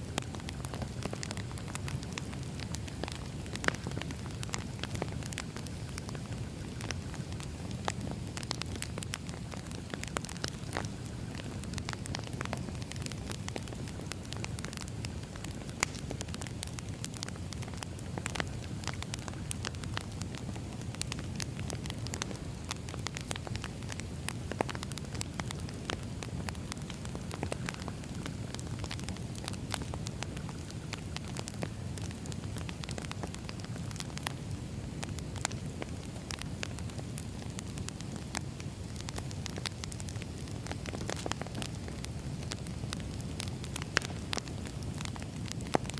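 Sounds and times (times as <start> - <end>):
campfire pops and snaps: 0.0 - 45.9
fire burning rumble: 0.0 - 45.9.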